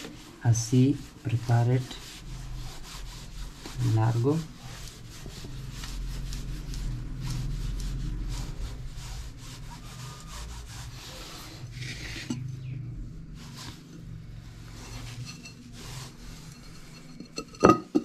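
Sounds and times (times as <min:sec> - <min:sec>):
hands rubbing dough on countertop: 0:00.0 - 0:18.0.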